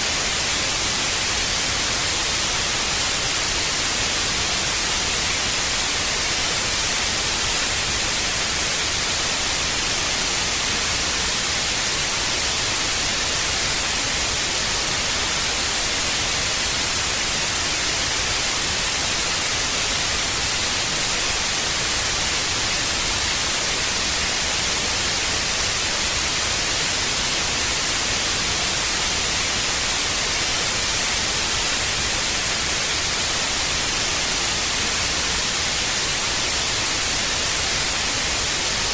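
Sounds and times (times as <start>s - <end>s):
tv static hiss: 0.0s - 38.9s.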